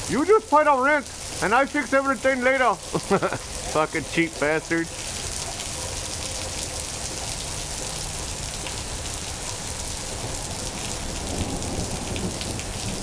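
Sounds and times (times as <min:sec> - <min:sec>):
heavy rain pouring: 0:00.0 - 0:13.0
raindrops ticking on surfaces: 0:00.0 - 0:13.0.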